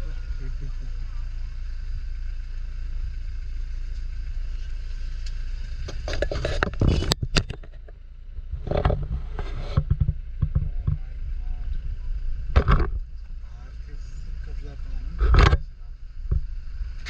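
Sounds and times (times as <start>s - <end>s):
rattling and scraping: 0.0s - 17.0s
vehicle low rumble: 0.0s - 17.0s.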